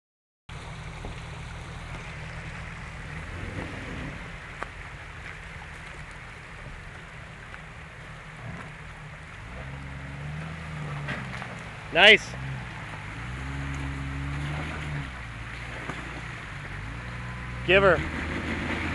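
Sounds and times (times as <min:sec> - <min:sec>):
engine running low and steady: 0:00.5 - 0:18.9.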